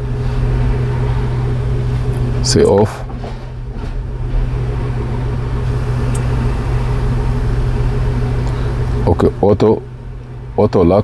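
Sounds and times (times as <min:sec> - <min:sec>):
vehicle engine hum with hiss: 0:00.0 - 0:11.0.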